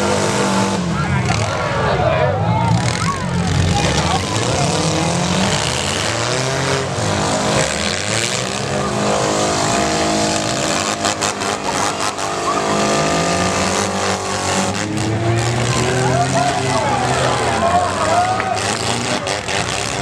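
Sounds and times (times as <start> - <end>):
car engines revving: 0.0 - 20.0
cars crashing: 0.0 - 20.0.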